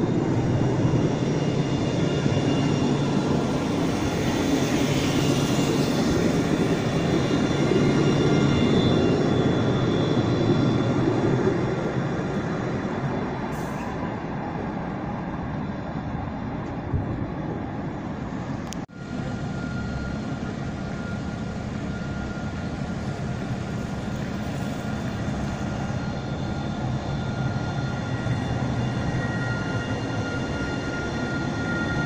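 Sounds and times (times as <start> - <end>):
tram wheels rumbling on rail: 0.0 - 32.0.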